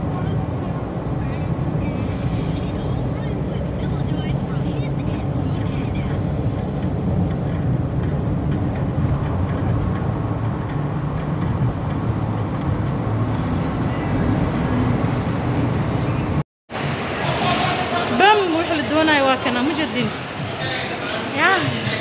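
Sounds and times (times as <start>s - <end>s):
moving vehicle rumble: 0.0s - 22.0s.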